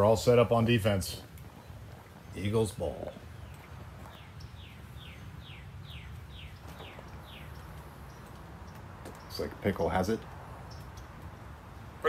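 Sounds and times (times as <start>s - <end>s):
steady low background hum: 0.0s - 12.0s.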